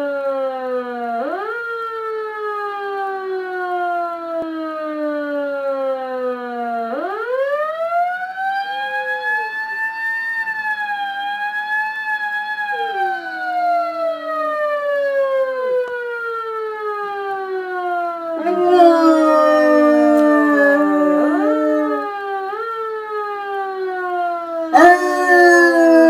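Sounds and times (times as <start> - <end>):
fire truck siren wailing: 0.0 - 26.0.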